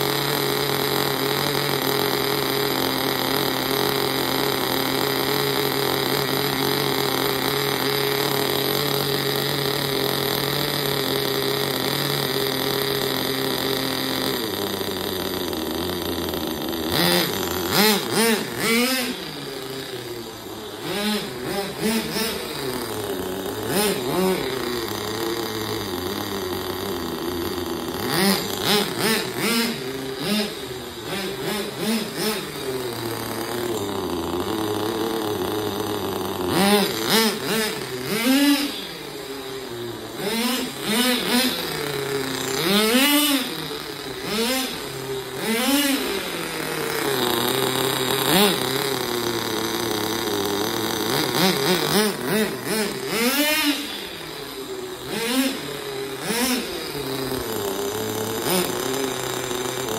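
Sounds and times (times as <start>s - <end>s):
small nitro engine revving: 0.0s - 59.9s.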